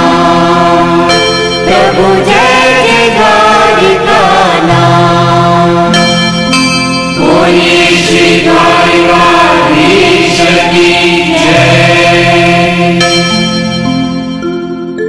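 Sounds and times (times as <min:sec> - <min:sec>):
voices chanting a hymn: 0:00.0 - 0:06.2, 0:07.1 - 0:13.5
steady held drone: 0:00.0 - 0:14.4.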